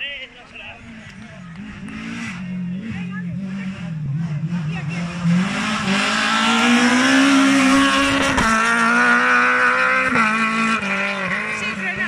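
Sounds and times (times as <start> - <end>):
rally car engine accelerating: 0.8 - 12.0.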